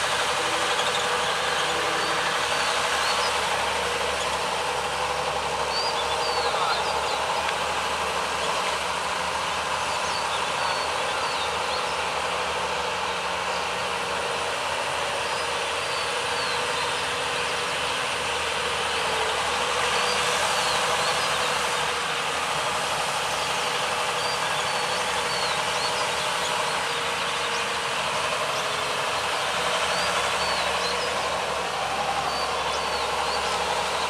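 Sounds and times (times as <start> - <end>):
excavator engines droning: 0.0 - 34.0.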